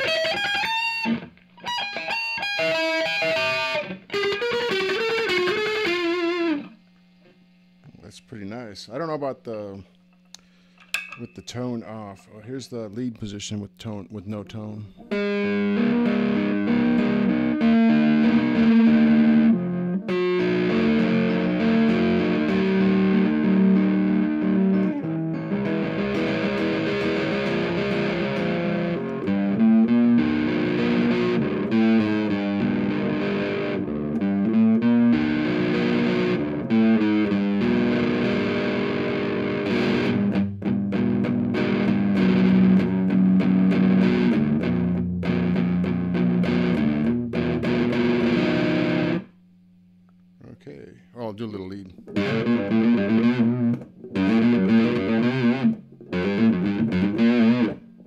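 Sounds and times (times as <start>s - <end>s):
distorted electric guitar: 0.0s - 8.6s, 13.3s - 49.5s, 51.2s - 58.0s.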